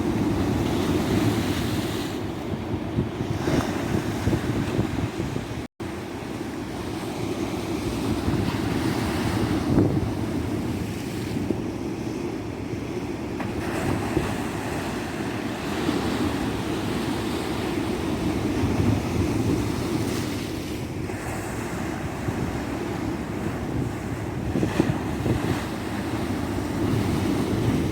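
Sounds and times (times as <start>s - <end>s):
wind buffeting microphone: 0.0s - 5.7s, 7.6s - 11.8s, 12.6s - 27.9s
ocean surf washing on beach: 0.0s - 27.9s.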